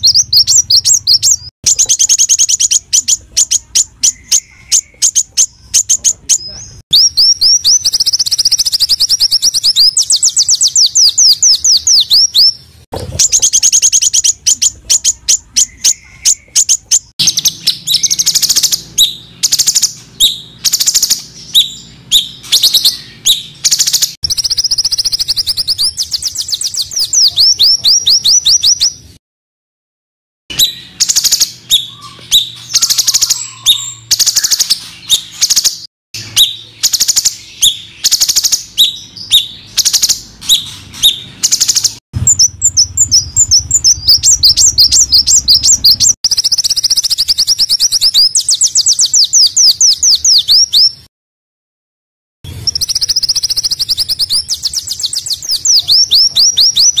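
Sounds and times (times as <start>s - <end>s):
songbird song with trills: 0.0s - 29.2s, 30.5s - 51.1s, 52.5s - 57.0s.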